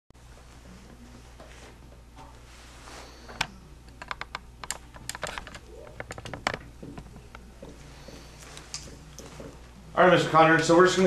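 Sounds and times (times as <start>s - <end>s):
low steady hum: 0.2s - 11.0s.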